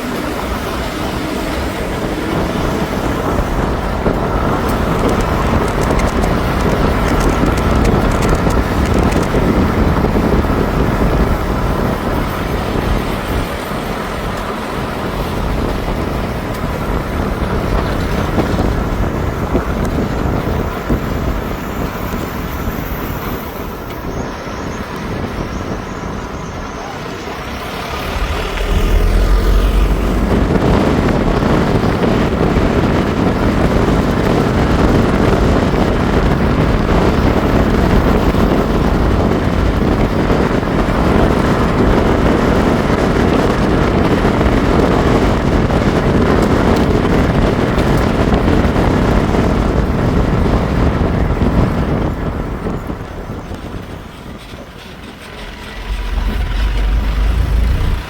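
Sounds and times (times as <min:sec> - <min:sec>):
motor vehicle engine rumble: 0:00.0 - 0:58.0.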